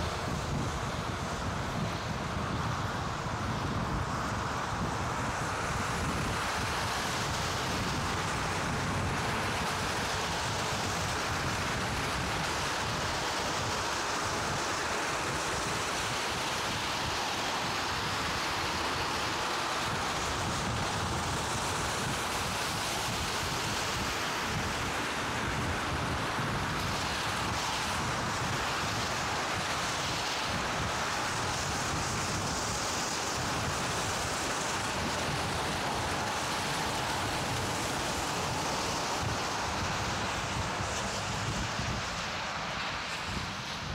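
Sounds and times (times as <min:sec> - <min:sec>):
tyre hiss on wet path: 0:00.0 - 0:43.9
wind rushing over microphone: 0:00.0 - 0:43.9.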